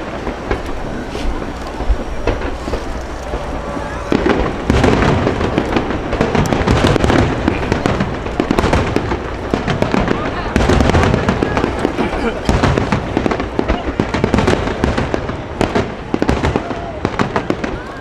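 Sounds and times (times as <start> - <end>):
firework shells booming and crackling: 0.0 - 18.0.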